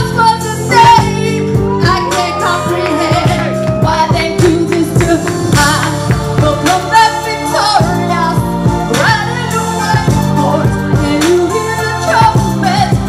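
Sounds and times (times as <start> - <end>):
backing track with steady beat: 0.0 - 13.0
woman singing gospel: 0.0 - 13.0.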